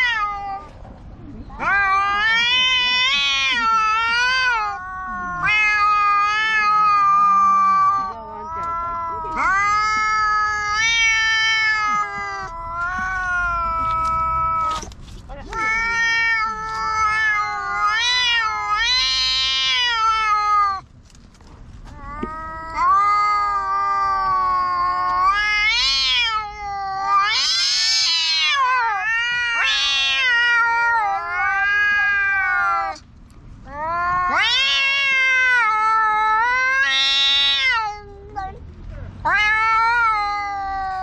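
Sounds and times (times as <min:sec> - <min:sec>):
cats yowling: 0:00.0 - 0:00.8, 0:01.5 - 0:20.9, 0:21.8 - 0:33.0, 0:33.6 - 0:41.0.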